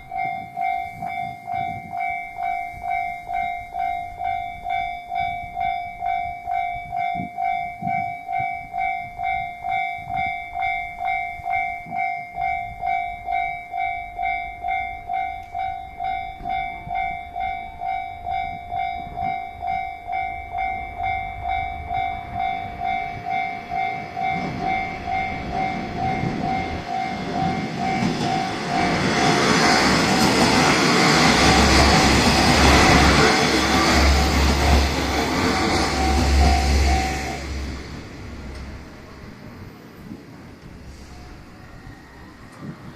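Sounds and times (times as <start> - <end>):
diesel railcar approaching: 0.0 - 42.9
level-crossing warning bell: 0.0 - 42.9.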